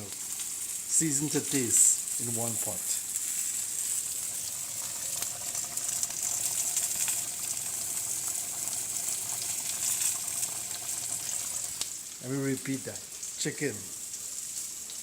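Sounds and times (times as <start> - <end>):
pot sizzling with pops: 0.0 - 15.0.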